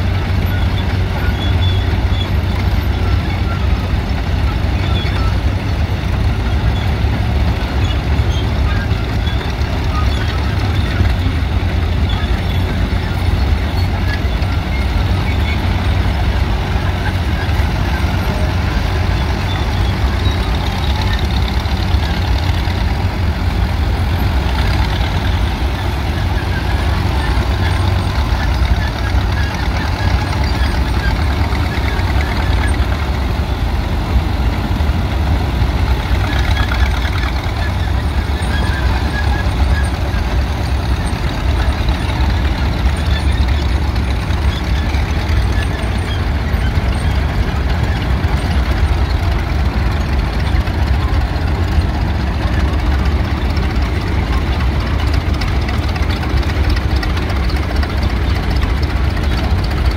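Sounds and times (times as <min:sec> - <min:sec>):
crawler tractor engines rumbling: 0:00.0 - 0:59.9.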